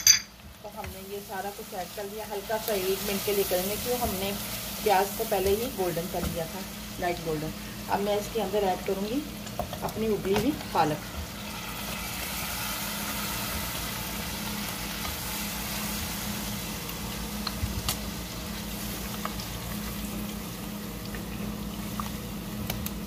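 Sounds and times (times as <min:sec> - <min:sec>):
food sizzling in hot oil: 0:00.0 - 0:23.0
low steady hum: 0:00.0 - 0:23.0.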